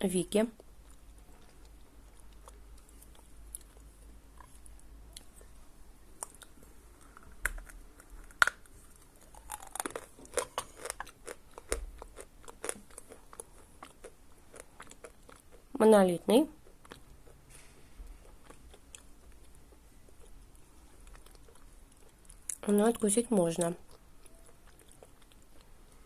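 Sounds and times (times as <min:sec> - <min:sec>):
crisp chewing crunches: 0:00.6 - 0:15.7, 0:16.6 - 0:22.9, 0:23.6 - 0:26.0.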